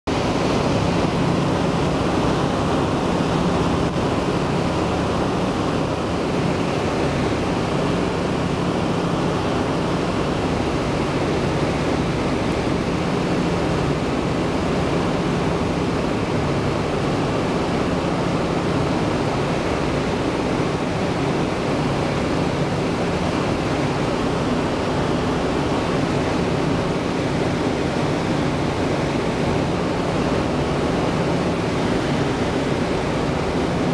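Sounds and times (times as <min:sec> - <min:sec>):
airflow rushing: 0:00.1 - 0:33.9
radial aircraft engines droning: 0:00.1 - 0:33.9.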